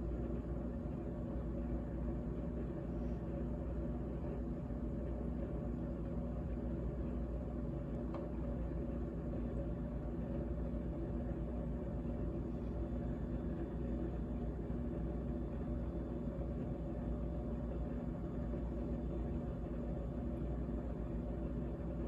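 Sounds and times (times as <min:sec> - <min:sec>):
refrigerator humming: 0:00.0 - 0:22.0.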